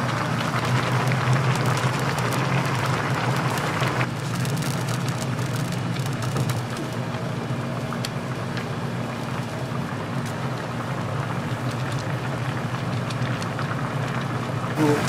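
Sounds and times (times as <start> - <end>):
food sizzling and crackling: 0.0 - 15.0.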